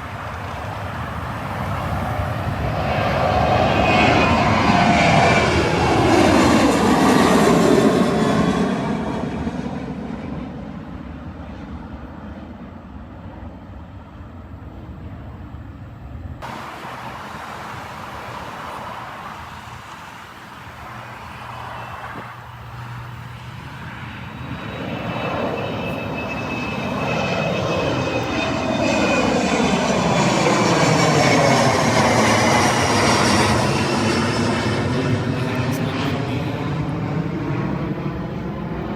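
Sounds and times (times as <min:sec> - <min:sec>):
falling high jet whine: 0:00.0 - 0:11.6, 0:16.4 - 0:38.9
jet airliner flying overhead: 0:00.0 - 0:38.9.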